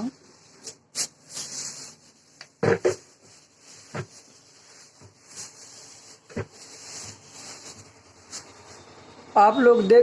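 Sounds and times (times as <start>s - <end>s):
light rubbing of packaging: 0.0s - 9.0s.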